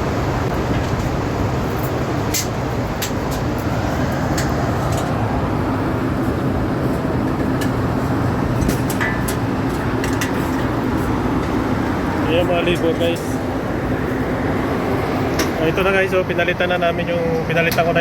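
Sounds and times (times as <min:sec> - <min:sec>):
air-conditioning equipment drone: 0:00.0 - 0:18.0
steady hum: 0:00.0 - 0:18.0.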